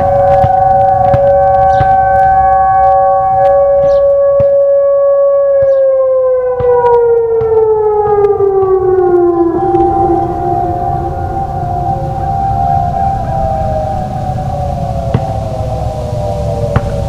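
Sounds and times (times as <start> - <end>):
tornado sirens: 0.0 - 17.0.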